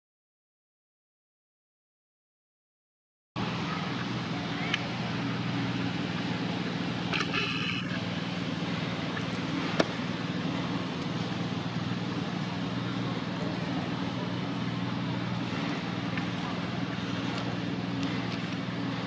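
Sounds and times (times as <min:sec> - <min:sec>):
low mechanical hum: 0:03.4 - 0:19.0.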